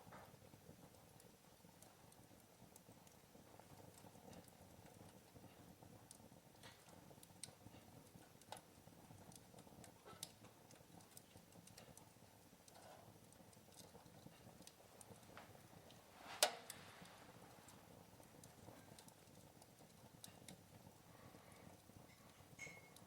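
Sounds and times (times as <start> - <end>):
faint steady hiss: 0.0 - 23.0
wood fire crackling: 0.0 - 23.0.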